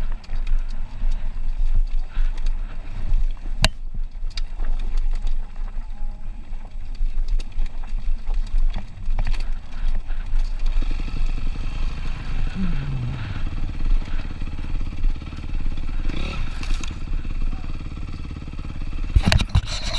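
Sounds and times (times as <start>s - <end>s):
motocross bike engine running: 0.0s - 19.9s.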